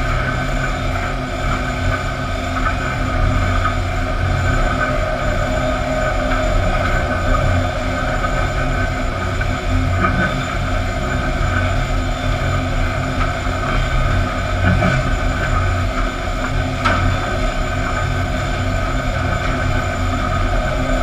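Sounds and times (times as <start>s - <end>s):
motor hum: 0.0s - 21.0s.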